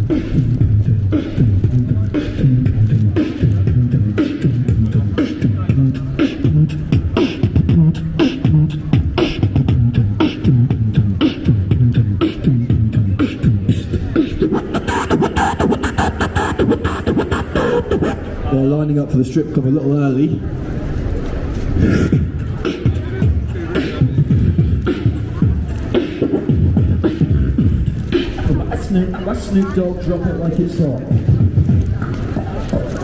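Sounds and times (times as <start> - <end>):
person beatboxing: 0.0 - 18.6, 21.8 - 33.0.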